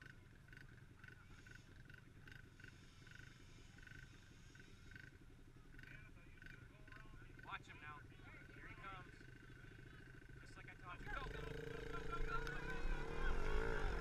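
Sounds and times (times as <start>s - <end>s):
dirt bike engine idling: 0.0s - 14.0s.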